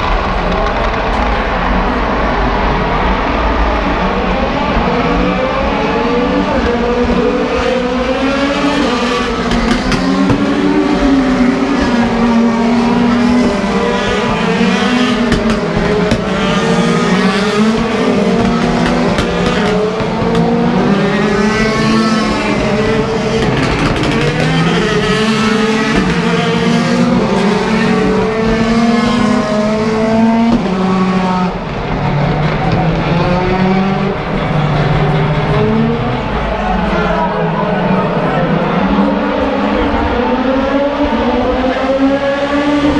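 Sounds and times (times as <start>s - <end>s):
race car engines accelerating: 0.0s - 42.9s.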